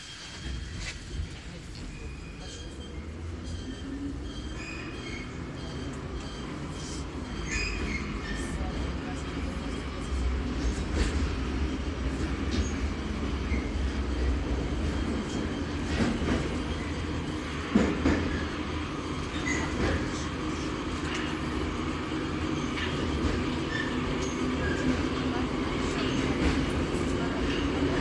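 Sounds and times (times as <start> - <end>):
metro train wheels rumbling: 0.0 - 28.0.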